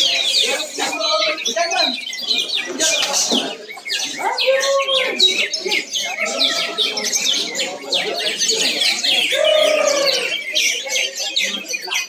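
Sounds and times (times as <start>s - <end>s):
songbirds chirping rapidly: 0.0s - 12.0s.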